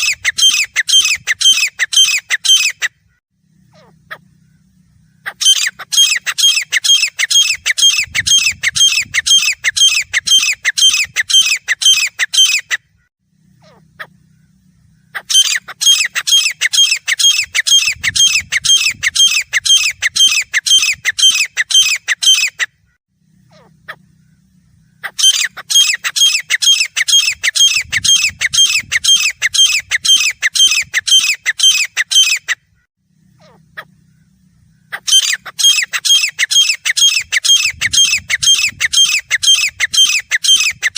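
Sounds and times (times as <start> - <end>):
bird calling harsh repeated notes: 0.0 - 40.9.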